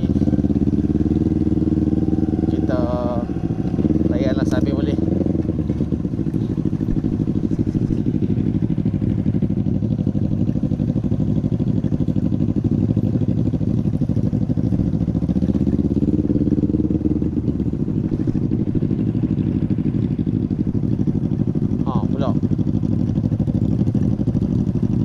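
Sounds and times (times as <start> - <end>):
small motorcycle engine running: 0.0 - 25.0.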